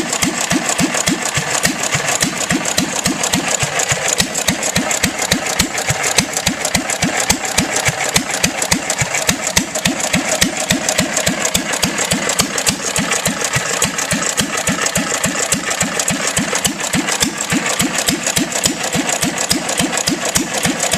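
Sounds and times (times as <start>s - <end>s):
gas engine running steadily: 0.0s - 20.9s.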